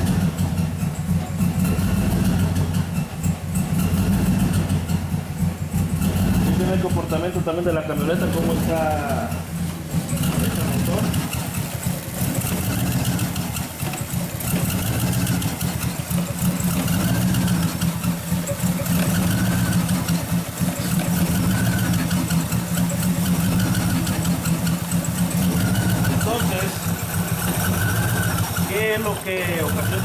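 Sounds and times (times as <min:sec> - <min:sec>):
engine idling unevenly: 0:00.0 - 0:30.0.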